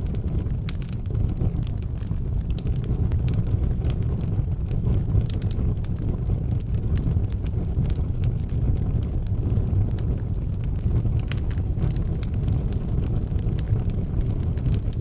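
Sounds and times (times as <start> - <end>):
crackles and pops of burning wood: 0.0 - 15.0
wood fire rumbling: 0.0 - 15.0.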